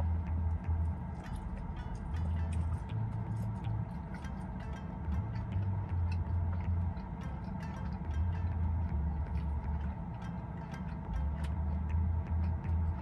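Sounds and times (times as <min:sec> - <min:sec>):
background music with bass: 0:00.0 - 0:13.0.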